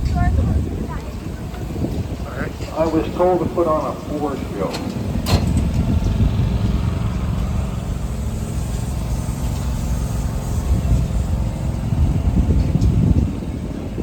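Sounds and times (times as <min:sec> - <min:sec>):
pulsing mechanical rumble: 0:00.0 - 0:14.0.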